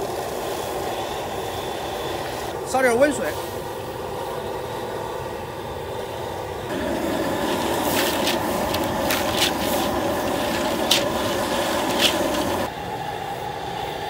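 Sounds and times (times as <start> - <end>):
gas burner roaring: 0.0 - 14.0.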